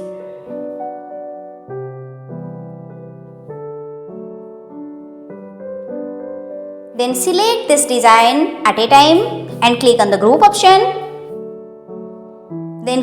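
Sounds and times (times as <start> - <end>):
soft electric piano chords: 0.0 - 13.0.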